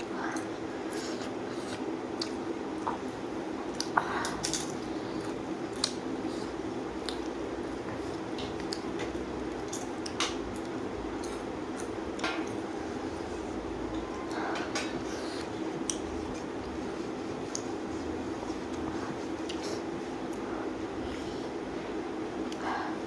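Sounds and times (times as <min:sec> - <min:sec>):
wet chewing: 0:00.0 - 0:13.0, 0:14.2 - 0:20.5.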